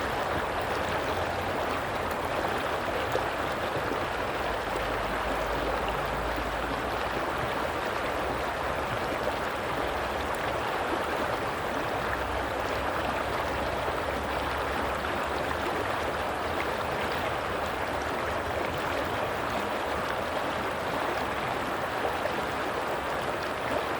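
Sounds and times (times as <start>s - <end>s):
stream rushing and gurgling: 0.0s - 23.9s.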